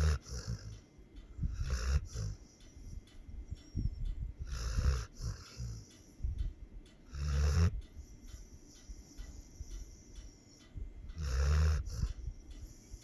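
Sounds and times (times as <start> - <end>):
dog snoring: 0.0 - 3.0, 4.4 - 6.4, 7.0 - 13.0.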